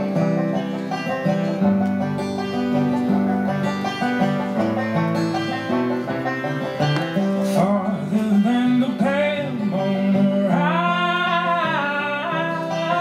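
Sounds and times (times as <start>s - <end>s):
guitar and banjo plucking: 0.0s - 13.0s
wordless melody line: 0.0s - 13.0s.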